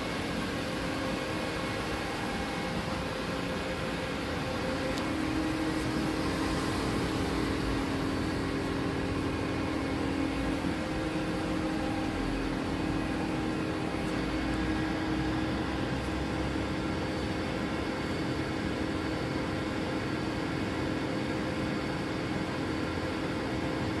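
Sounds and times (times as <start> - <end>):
machine mechanical hum: 0.0 - 24.0.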